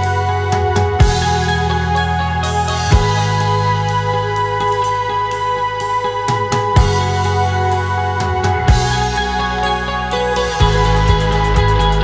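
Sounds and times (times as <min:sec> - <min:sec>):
held chords over low bass: 0:00.0 - 0:12.0.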